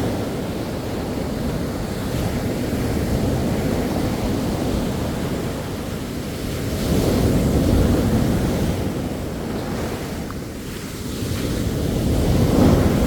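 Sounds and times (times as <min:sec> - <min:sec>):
sea waves breaking on beach: 0:00.0 - 0:13.0
wind rumble on microphone: 0:00.0 - 0:13.0.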